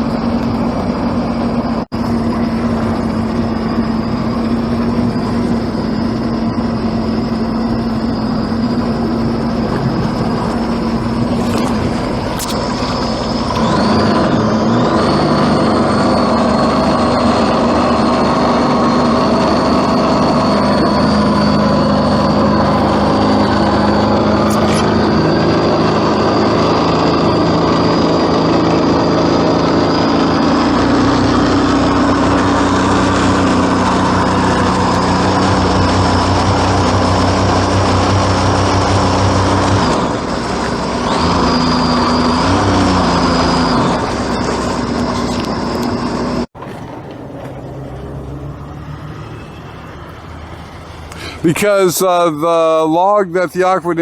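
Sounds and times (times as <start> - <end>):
large engine running under load: 0.0 - 54.0.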